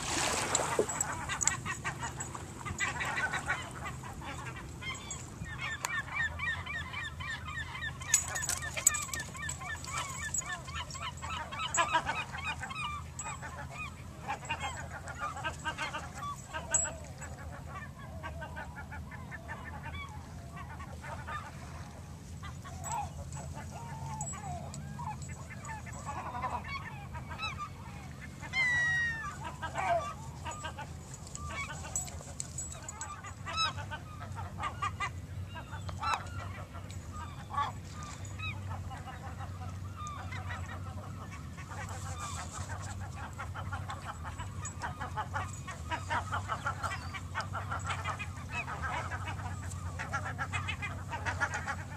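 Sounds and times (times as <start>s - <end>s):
birds honking: 0.1s - 51.9s.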